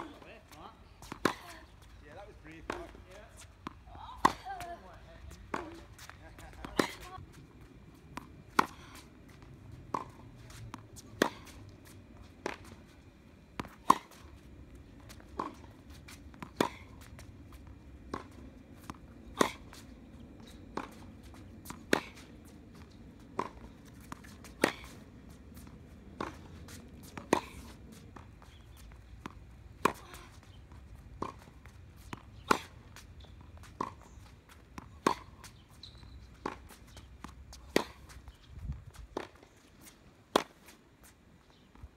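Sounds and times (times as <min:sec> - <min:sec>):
tennis ball bounces: 0:01.0 - 0:38.4, 0:39.0 - 0:40.8.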